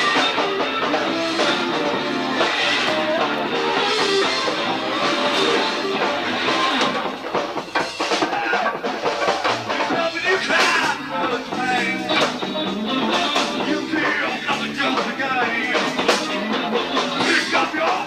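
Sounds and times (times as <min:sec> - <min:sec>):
live band playing instrumental: 0:00.0 - 0:18.0.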